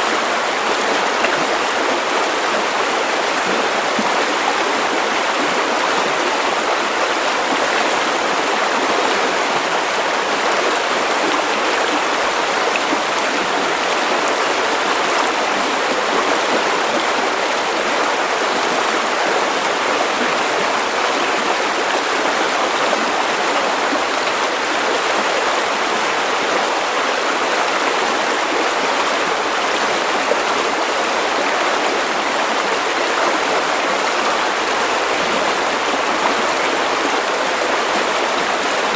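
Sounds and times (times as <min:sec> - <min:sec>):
river water over stones: 0:00.0 - 0:38.9.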